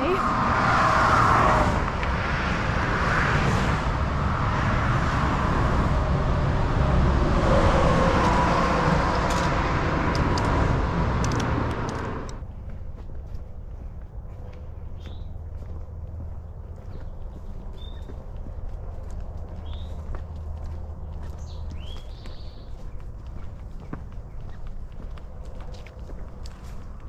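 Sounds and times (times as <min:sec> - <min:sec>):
highway traffic rushing: 0:00.0 - 0:27.0.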